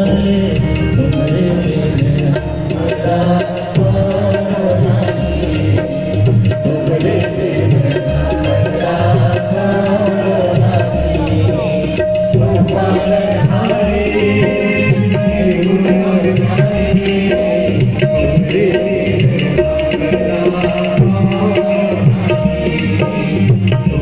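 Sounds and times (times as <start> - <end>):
live band music: 0.0 - 24.0.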